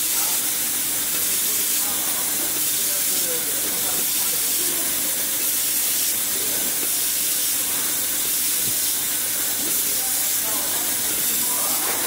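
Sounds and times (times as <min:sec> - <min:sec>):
high-pitched laser welding hiss: 0:00.0 - 0:12.0.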